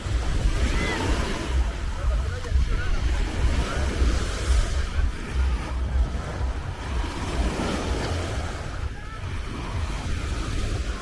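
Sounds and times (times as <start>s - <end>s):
faint voices: 0.0s - 11.0s
small waves breaking on sand: 0.0s - 11.0s
wind buffeting microphone: 0.0s - 11.0s.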